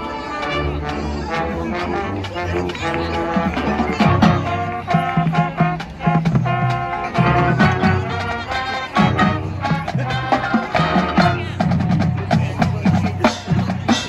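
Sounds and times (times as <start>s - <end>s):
wind instruments holding chords: 0.0s - 14.0s.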